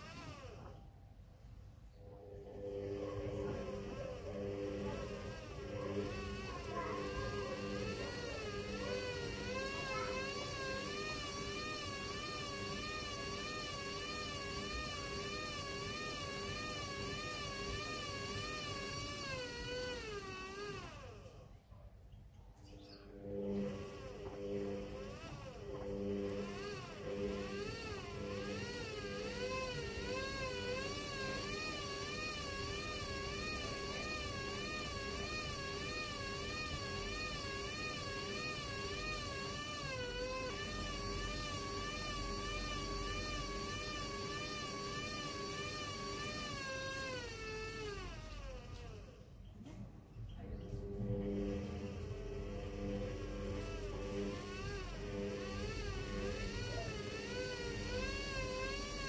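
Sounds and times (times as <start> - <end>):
washing machine motor whining: 0.0 - 21.7, 22.6 - 59.0.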